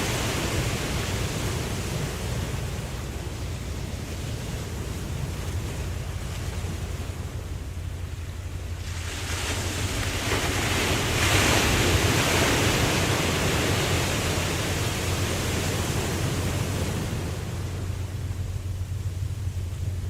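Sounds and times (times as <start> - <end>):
low rumble: 0.0 - 20.0
ocean wave washing in: 0.0 - 20.0.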